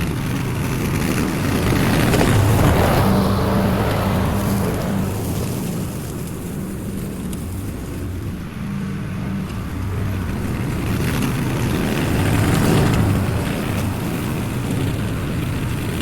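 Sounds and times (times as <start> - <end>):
lawn mower engine cutting grass: 0.0 - 16.0.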